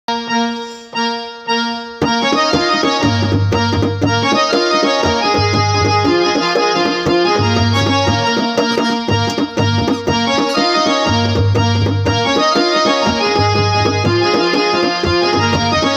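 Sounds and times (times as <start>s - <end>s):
electronic keyboard chords and melody: 0.1s - 15.9s
steady drum beat: 2.0s - 15.9s.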